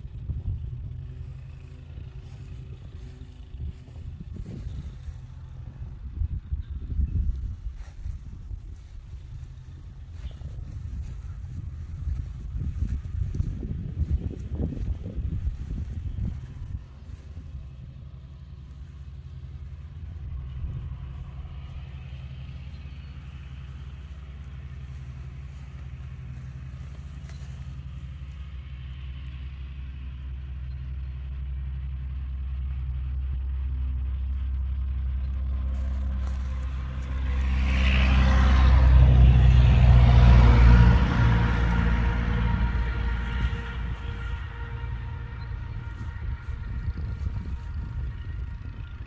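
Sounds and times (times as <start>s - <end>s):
vehicle engine humming: 0.0s - 49.0s.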